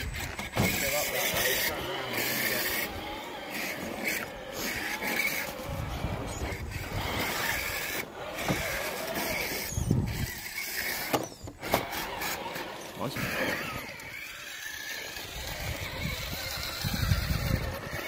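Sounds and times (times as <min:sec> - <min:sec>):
small electric motor whining: 0:00.0 - 0:18.0
tyres scrabbling over ground: 0:00.0 - 0:18.0.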